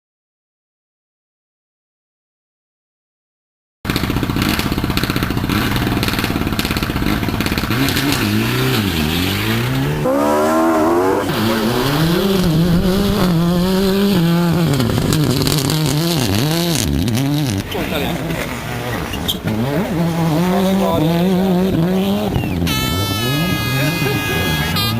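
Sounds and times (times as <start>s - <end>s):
rally car engine revving: 3.9s - 24.9s.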